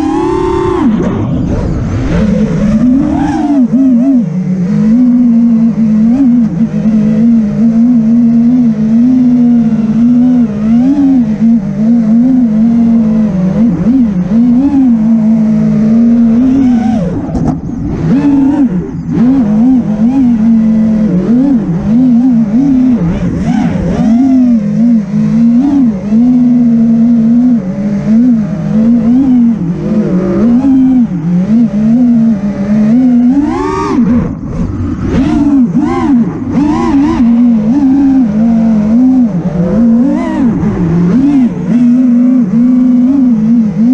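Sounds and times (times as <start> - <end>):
quadcopter motors whining: 0.0 - 43.8.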